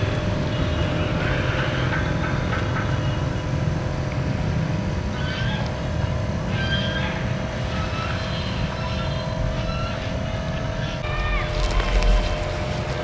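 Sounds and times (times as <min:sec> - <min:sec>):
motor vehicle rumble: 0:00.0 - 0:06.5, 0:07.2 - 0:13.0.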